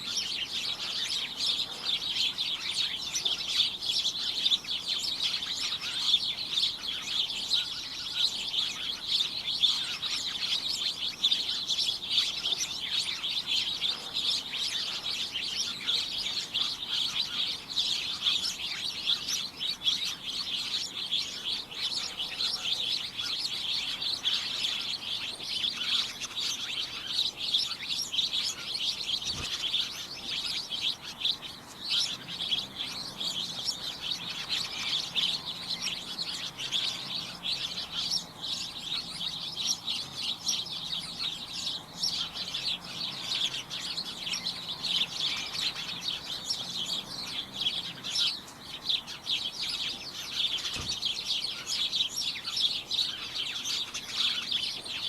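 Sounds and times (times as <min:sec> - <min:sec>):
flock of small birds chirping: 0:00.0 - 0:55.0.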